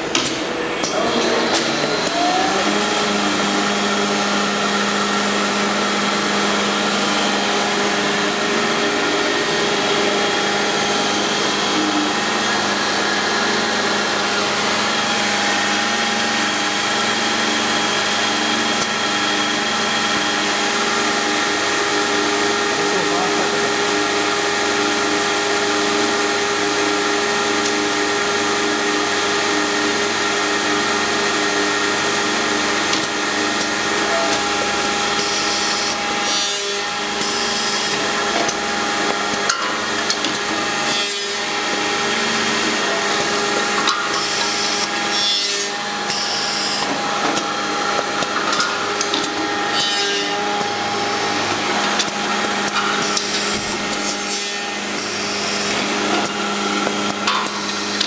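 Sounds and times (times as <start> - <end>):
milling machine cutting wood: 0.0 - 58.0.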